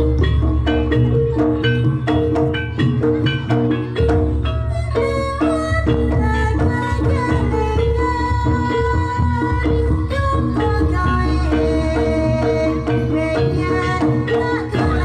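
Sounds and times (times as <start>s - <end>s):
drums: 0.0s - 15.0s
held bending melodic line: 0.0s - 15.0s
struck mallet notes: 0.0s - 15.0s.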